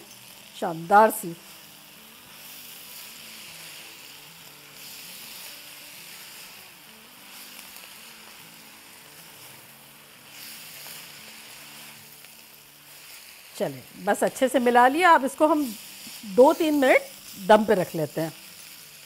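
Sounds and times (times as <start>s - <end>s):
cabbage frying in wok: 0.0s - 19.0s.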